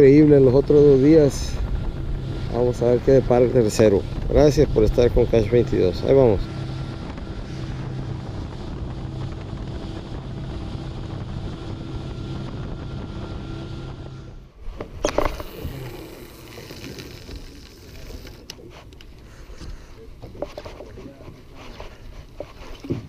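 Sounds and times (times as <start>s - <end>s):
hull rushing through water: 0.0s - 18.7s
boat engine running: 0.0s - 23.0s
wind: 0.0s - 23.0s.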